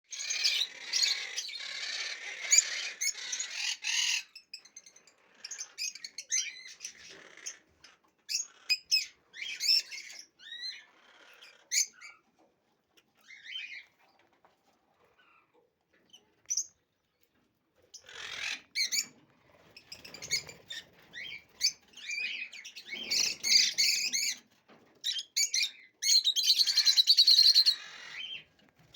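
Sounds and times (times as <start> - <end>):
small birds chirping: 0.1 - 28.9.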